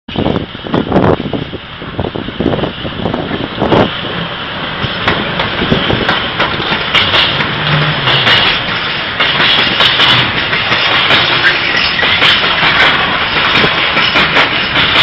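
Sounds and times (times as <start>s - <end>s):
train wheels rumbling on rails: 0.1s - 15.0s
wagons clicking over track: 2.6s - 15.0s.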